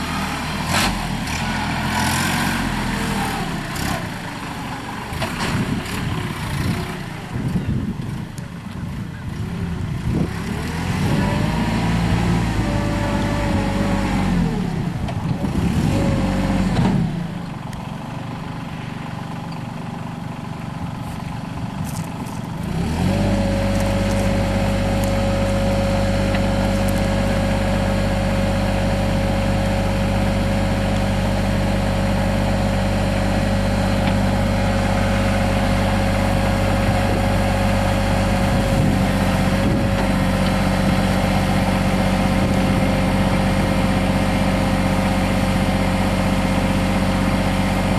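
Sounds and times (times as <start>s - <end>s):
tractor diesel engine: 0.0s - 47.9s.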